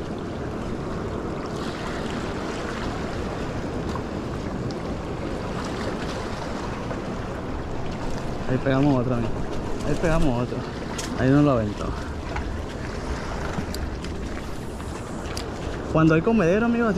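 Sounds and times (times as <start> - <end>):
small waves washing against rocks: 0.0 - 16.9
wind on microphone: 0.0 - 16.9.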